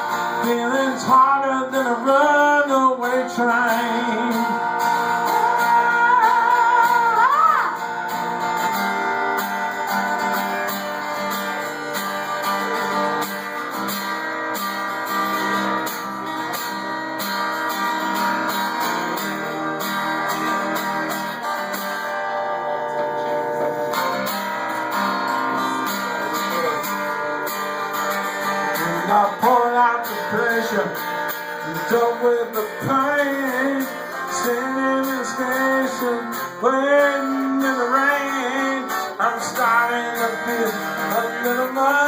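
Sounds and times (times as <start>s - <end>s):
acoustic guitar chords: 0.0s - 42.0s.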